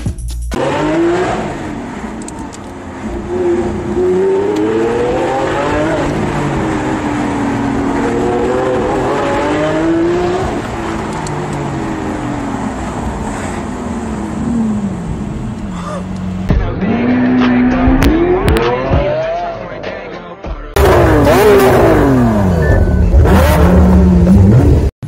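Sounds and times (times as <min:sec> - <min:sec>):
car engine revving: 0:00.5 - 0:19.7, 0:20.7 - 0:24.9.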